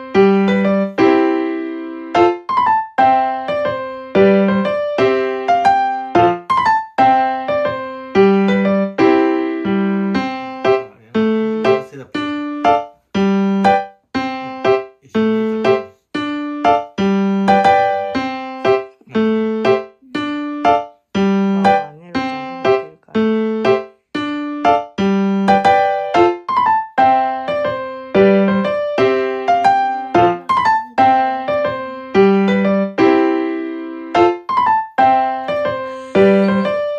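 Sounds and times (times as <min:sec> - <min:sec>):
calm piano melody: 0:00.0 - 0:36.9.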